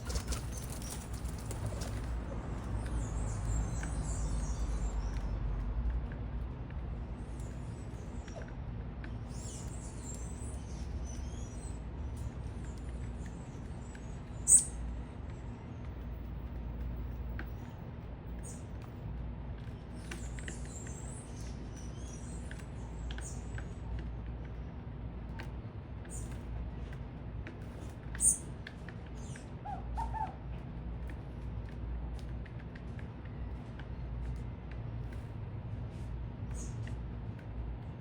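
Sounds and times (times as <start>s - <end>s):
low city rumble: 0.0s - 38.0s
small birds chirping: 0.0s - 38.0s.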